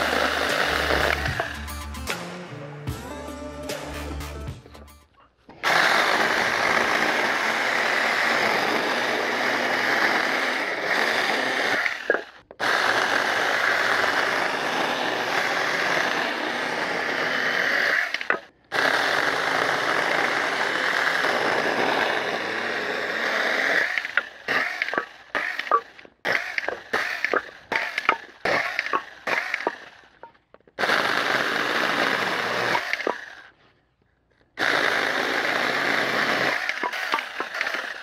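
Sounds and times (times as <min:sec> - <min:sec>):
chainsaw cutting log: 0:00.0 - 0:01.8, 0:05.6 - 0:33.7, 0:34.4 - 0:38.0.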